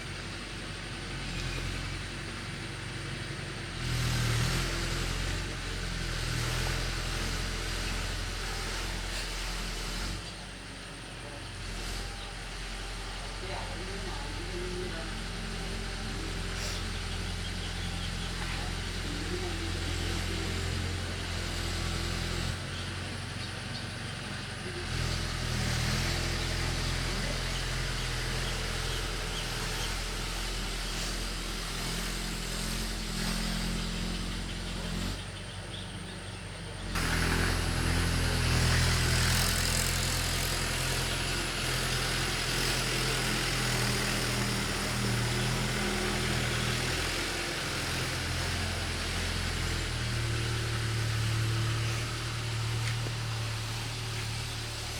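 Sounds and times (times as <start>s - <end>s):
ploughing machine engine running: 0.0s - 54.9s.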